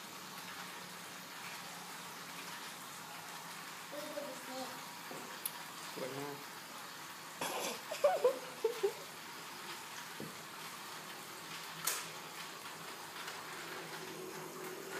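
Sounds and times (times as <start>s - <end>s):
toy train whirring: 0.0s - 14.9s.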